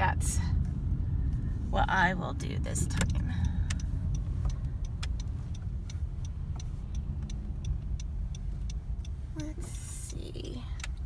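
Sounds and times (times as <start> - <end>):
engine and road rumble: 0.0 - 11.0
turn signal ticking: 0.0 - 11.0.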